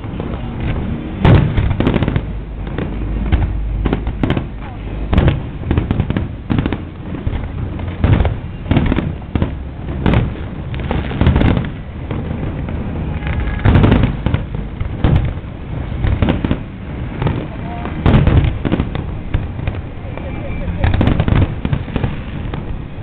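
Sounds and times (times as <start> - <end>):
fireworks booming and crackling: 0.0 - 23.0
low rumble: 0.0 - 23.0.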